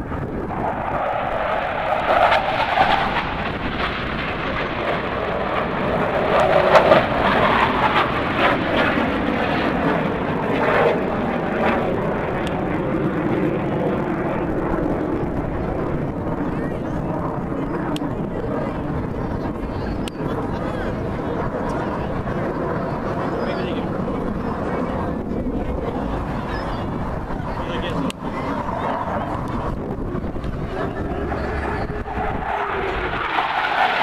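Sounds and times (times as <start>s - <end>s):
airplane engine: 0.0s - 34.0s.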